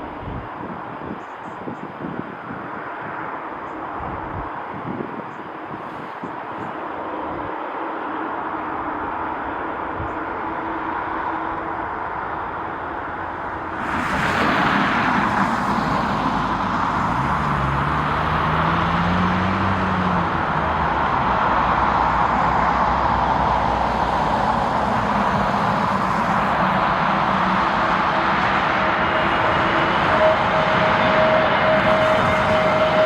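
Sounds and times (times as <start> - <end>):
jet engine rushing: 4.2 - 33.0.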